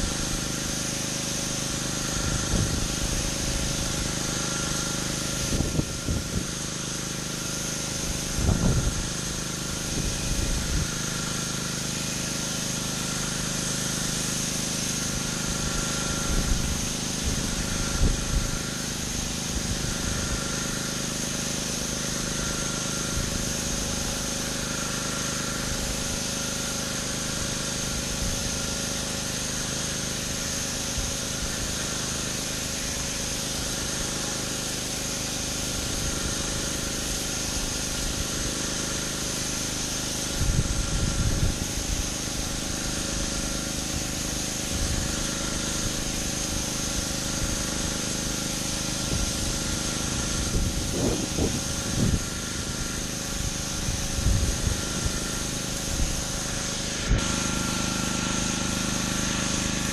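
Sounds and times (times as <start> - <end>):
pressure washer engine humming: 0.0 - 59.9
water spray hissing on concrete: 0.0 - 59.9.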